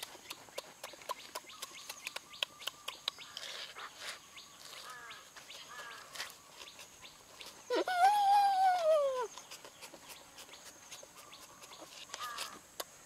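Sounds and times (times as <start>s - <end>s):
lettuce crunching while chewed: 0.0s - 7.9s, 9.2s - 13.0s
bird chirps: 0.2s - 12.6s.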